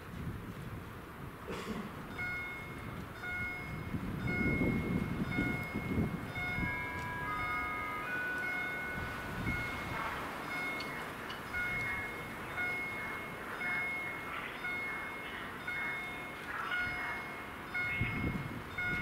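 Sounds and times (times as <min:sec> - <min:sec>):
level crossing warning chimes: 0:02.1 - 0:19.0.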